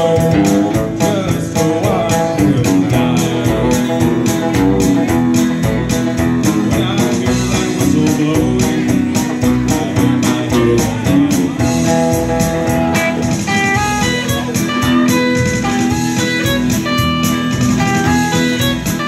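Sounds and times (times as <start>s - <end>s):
electric guitar lead line: 0.0s - 19.0s
steady beat: 0.0s - 19.0s
strummed acoustic guitar: 0.0s - 19.0s.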